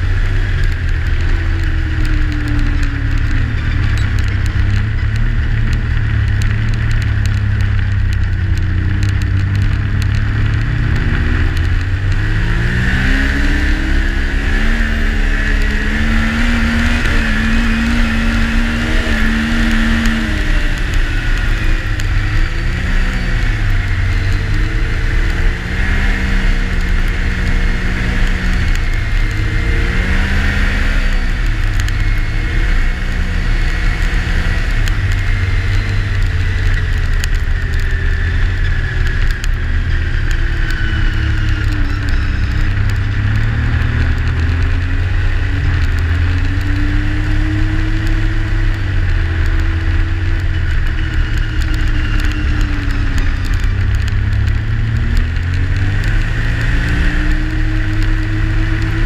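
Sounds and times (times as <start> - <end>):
snowmobile engine running: 0.0 - 59.0
steady rushing noise: 0.0 - 59.0.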